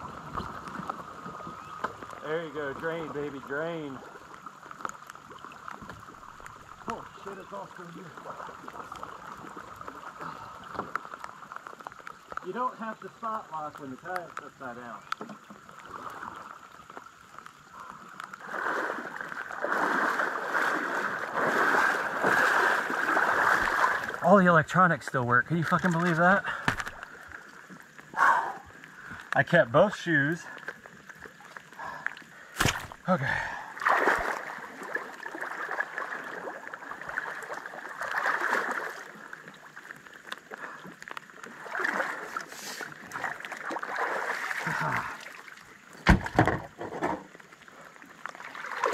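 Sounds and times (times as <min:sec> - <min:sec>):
water sloshing around wading legs: 0:00.0 - 0:24.3, 0:25.6 - 0:29.4, 0:30.2 - 0:48.9.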